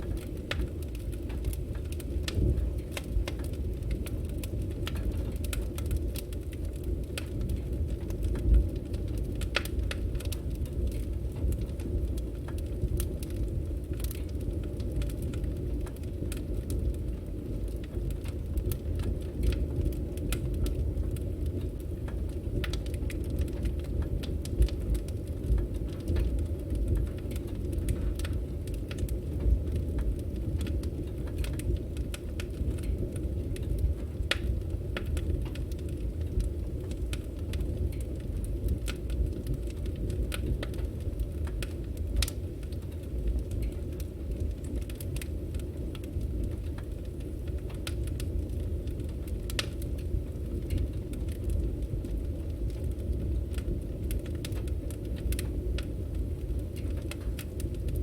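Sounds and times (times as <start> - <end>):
logs crackling and popping: 0.0 - 58.0
wood fire rumbling: 0.0 - 58.0.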